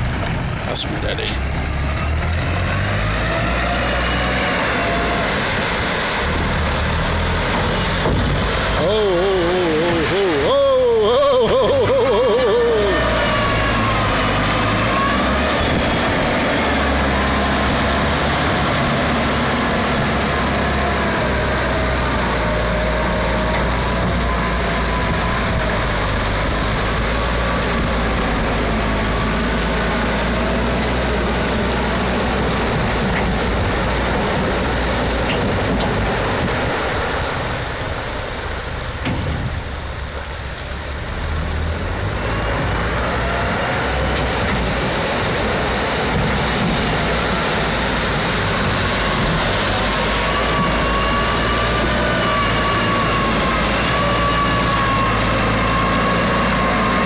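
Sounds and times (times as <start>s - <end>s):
tractor engine under load: 0.0s - 57.0s.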